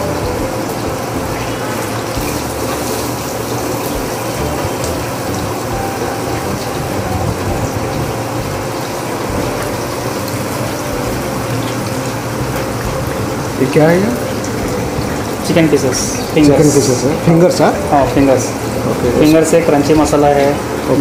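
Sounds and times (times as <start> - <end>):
chicken sizzling in deep fryer oil: 0.0 - 21.0.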